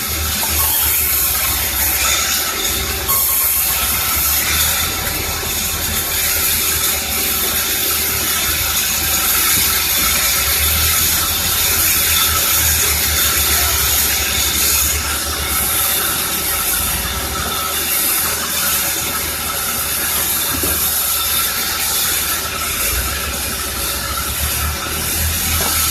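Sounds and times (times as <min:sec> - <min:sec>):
sawmill machinery hiss: 0:00.0 - 0:25.9.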